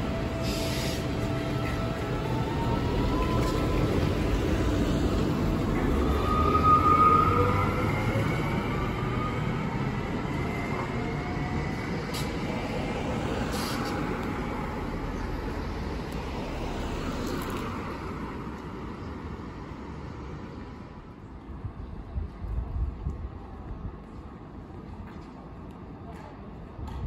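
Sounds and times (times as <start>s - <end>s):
street traffic: 0.0s - 27.0s
tram passing with a whine: 0.0s - 27.0s.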